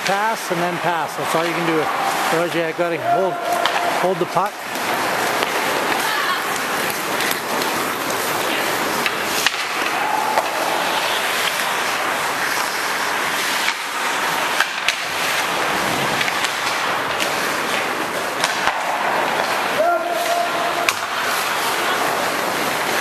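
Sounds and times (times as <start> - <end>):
hockey sticks clacking on puck: 0.0 - 23.0
ice skates scraping on ice: 0.0 - 23.0.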